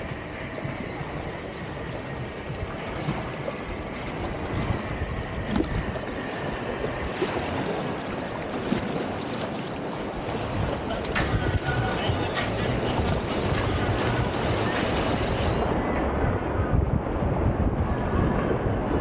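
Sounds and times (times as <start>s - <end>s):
sharp water splashes: 0.0s - 15.7s
whitewater rushing: 0.0s - 16.2s.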